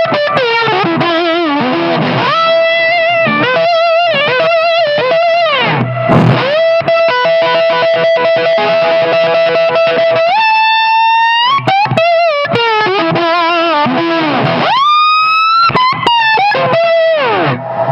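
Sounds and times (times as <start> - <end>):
slide electric guitar: 0.0 - 17.9.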